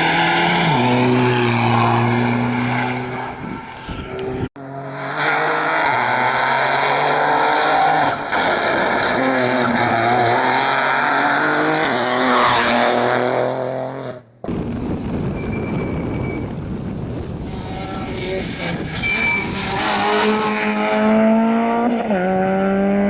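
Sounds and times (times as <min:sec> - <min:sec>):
rally car engine at full throttle: 0:00.0 - 0:23.0
rough car engine and tyre noise: 0:00.0 - 0:23.0.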